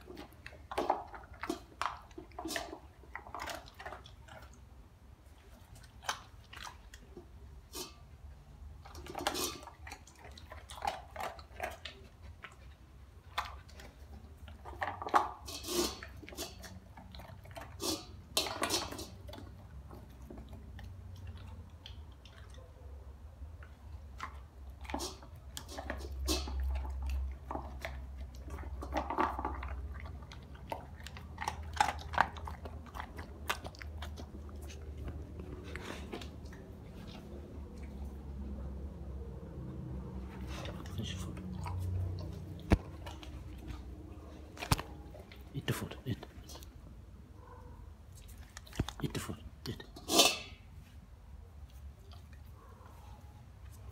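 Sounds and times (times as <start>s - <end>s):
dog crunching dry kibble: 0.0s - 22.8s, 23.5s - 51.0s.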